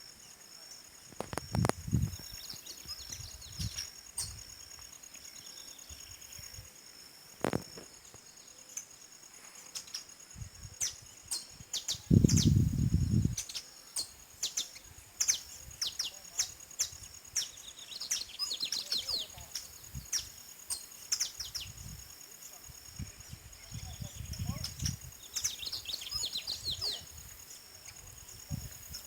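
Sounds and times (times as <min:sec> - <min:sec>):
small birds chirping: 0:00.0 - 0:06.7, 0:07.3 - 0:29.0
high insect buzz: 0:00.0 - 0:29.0.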